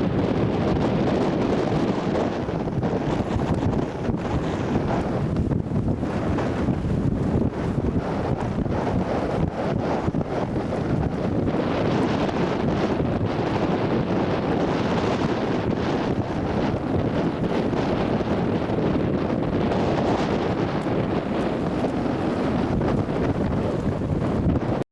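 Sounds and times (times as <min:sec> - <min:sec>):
wind blowing across microphone: 0:00.0 - 0:24.9.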